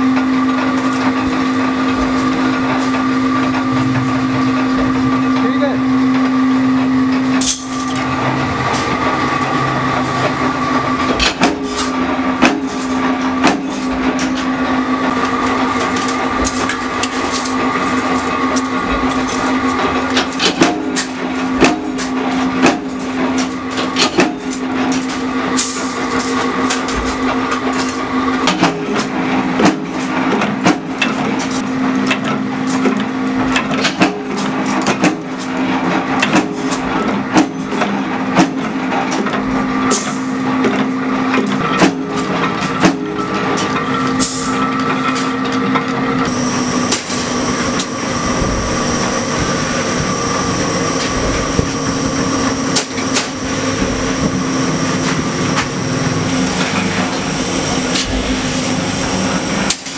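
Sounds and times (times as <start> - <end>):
machinery motor hum: 0.0 - 59.9.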